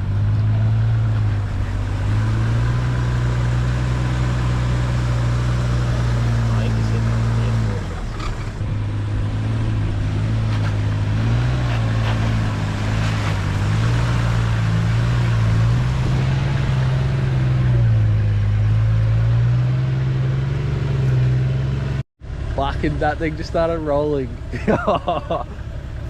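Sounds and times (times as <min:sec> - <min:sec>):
diesel engine at low revs: 0:00.0 - 0:26.0.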